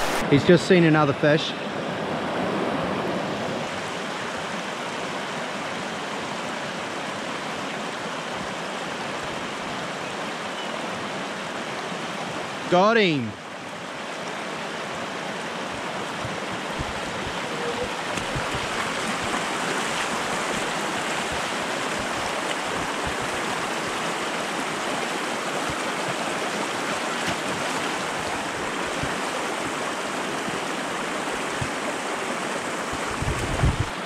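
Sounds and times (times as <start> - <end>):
river rushing over stones: 0.0 - 34.0.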